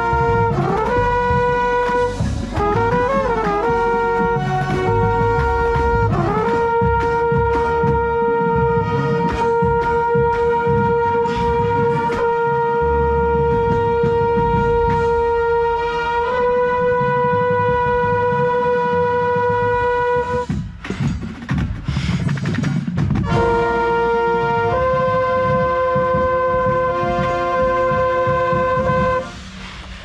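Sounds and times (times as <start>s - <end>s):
brass horns holding a note: 0.0s - 20.5s, 23.2s - 29.6s
drum and percussion hits: 0.0s - 30.0s.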